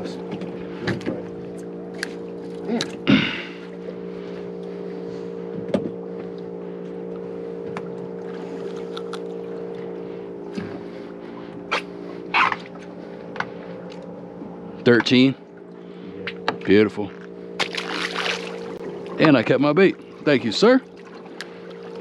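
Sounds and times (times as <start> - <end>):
outboard engine idling: 0.0 - 22.0.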